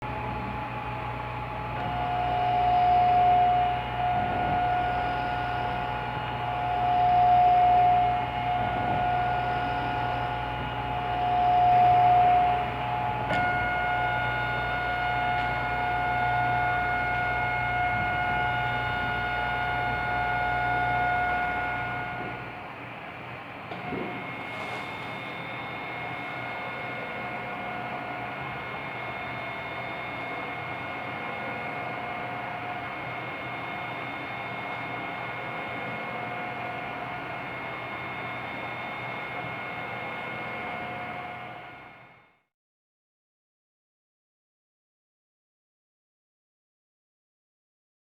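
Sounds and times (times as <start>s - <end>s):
stepper motor whine: 0.1s - 42.1s.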